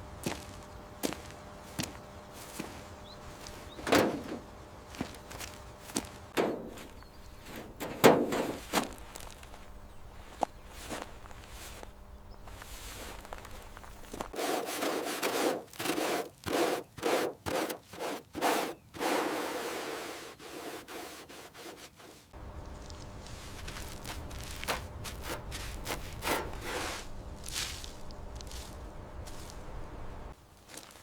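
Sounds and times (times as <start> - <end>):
scraping strokes: 1.1 - 30.2.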